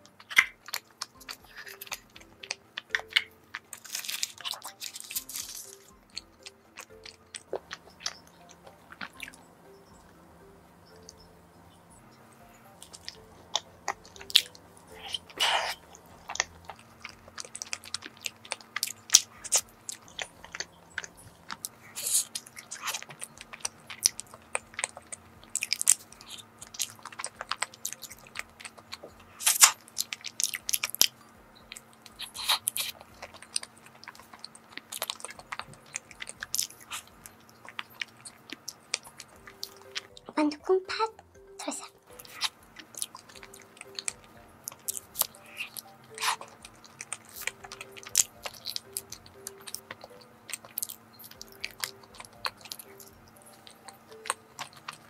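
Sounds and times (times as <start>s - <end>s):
person biting and chewing: 0.0s - 9.4s, 12.8s - 40.3s, 42.1s - 55.0s.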